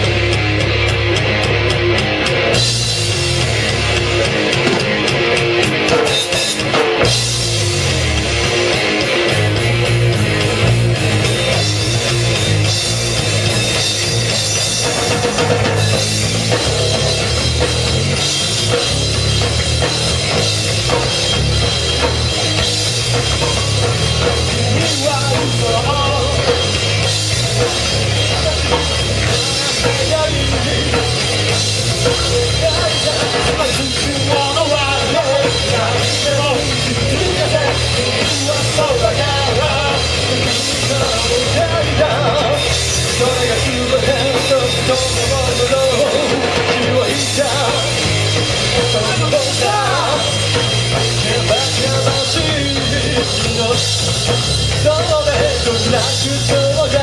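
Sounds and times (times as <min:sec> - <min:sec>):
drum kit beat: 0:00.0 - 0:57.0
rock band playing live: 0:00.0 - 0:57.0.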